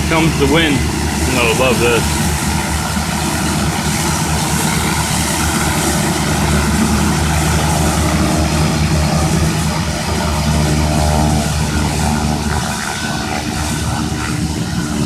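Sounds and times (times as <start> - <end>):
propeller aircraft engine idling: 0.0 - 15.0.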